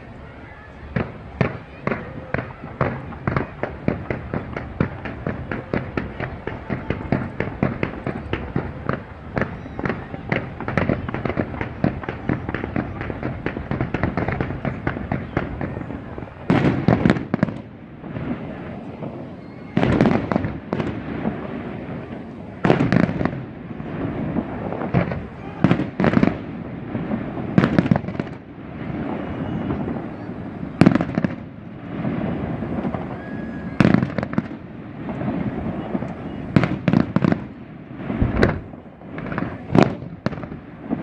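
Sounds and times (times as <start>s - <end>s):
fireworks crackling: 0.0s - 41.0s
loud firework bursts: 0.0s - 41.0s.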